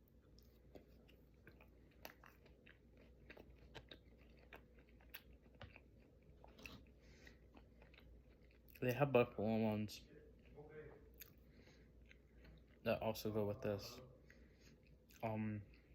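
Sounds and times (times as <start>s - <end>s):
quiet chewing: 0.0s - 9.0s, 10.2s - 12.9s, 14.0s - 15.9s.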